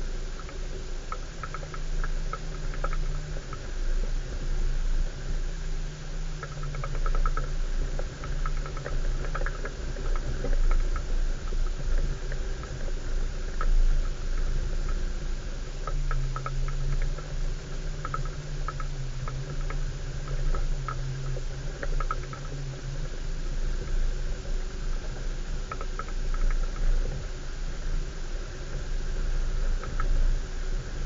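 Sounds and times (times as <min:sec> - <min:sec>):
engine droning at low speed: 0:00.0 - 0:31.0.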